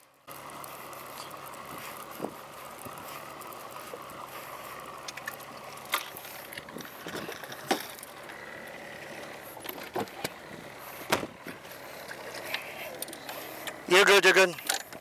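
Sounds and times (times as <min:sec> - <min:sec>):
gear knocking and rattling: 0:00.3 - 0:15.0.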